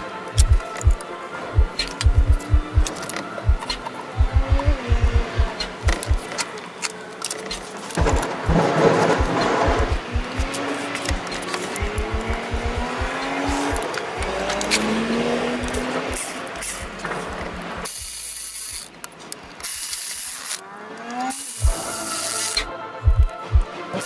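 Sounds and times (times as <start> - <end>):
hissing rasping mechanical noise: 1.6 - 23.3.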